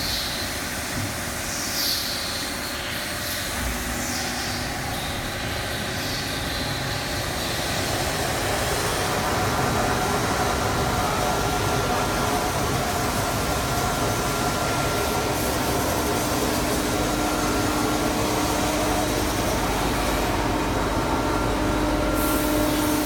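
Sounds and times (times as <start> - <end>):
grinding machine running: 3.1 - 23.0.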